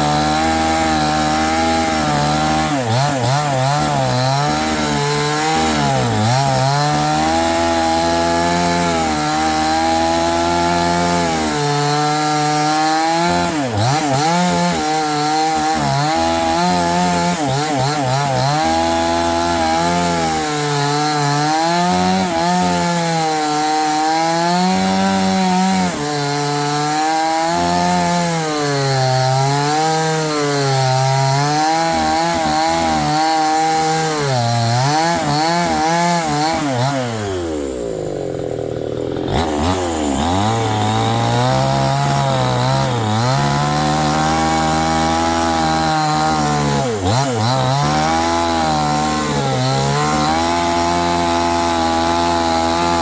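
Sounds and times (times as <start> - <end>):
chainsaw cutting: 0.0 - 53.0.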